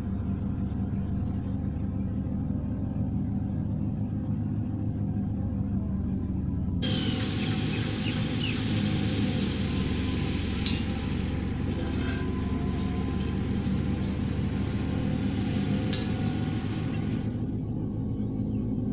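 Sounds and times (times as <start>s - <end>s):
low hum: 0.0s - 18.9s
low rumble: 0.0s - 18.9s.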